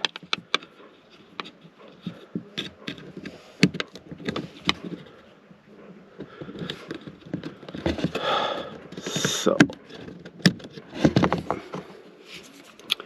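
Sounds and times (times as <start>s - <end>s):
hands clicking and knocking parts: 0.0s - 12.0s.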